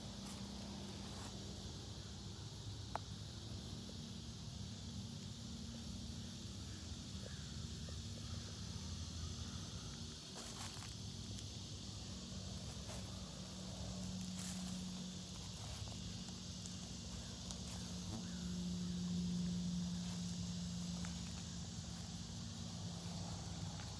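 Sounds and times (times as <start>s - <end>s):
steady high hiss: 0.0s - 23.9s.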